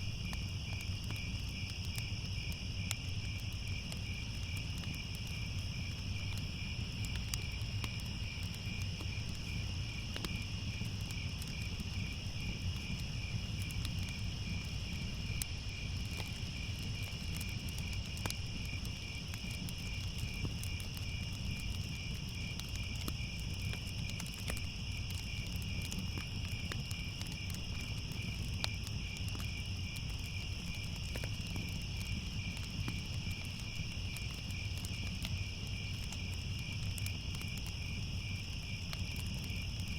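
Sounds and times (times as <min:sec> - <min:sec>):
crickets chirping: 0:00.0 - 0:39.9
fireplace fire crackling: 0:00.0 - 0:39.9.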